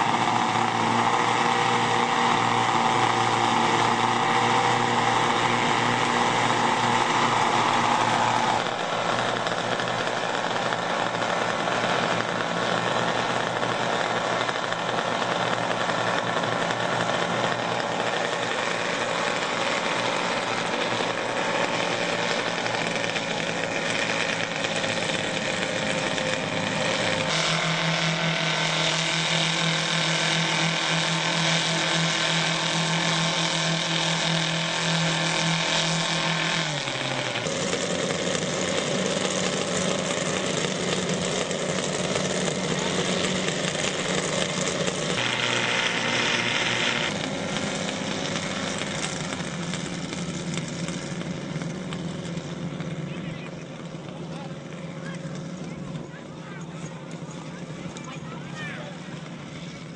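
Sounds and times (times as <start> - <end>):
model aircraft engines running: 0.0 - 59.9.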